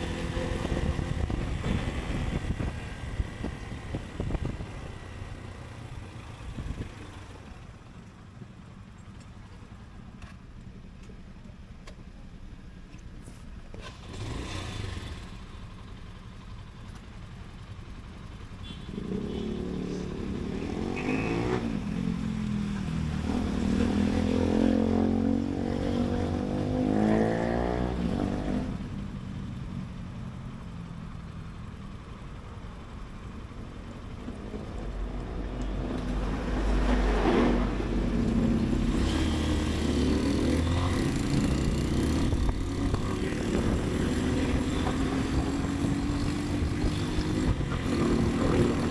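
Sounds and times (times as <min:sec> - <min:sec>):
motorcycle engine accelerating: 0:00.0 - 0:07.8, 0:13.7 - 0:16.9, 0:17.5 - 0:48.9
street traffic: 0:00.0 - 0:48.9.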